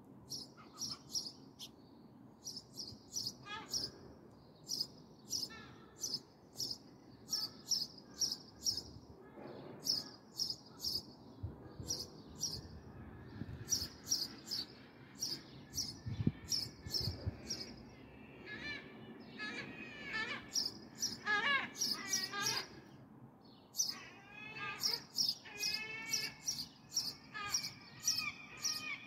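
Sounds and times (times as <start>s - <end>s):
sparrows chirping: 0.2s - 9.0s, 9.6s - 18.1s, 19.1s - 29.0s.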